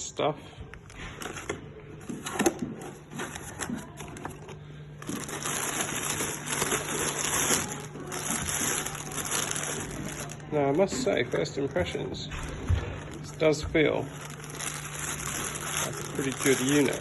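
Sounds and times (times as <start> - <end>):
packaging clicks and knocks: 1.2 - 17.0
wrapping crinkling rustle: 3.1 - 17.0.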